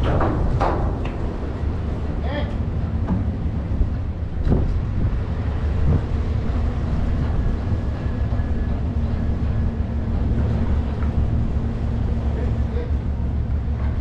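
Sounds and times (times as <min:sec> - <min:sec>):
engine low rumble: 0:00.0 - 0:14.0.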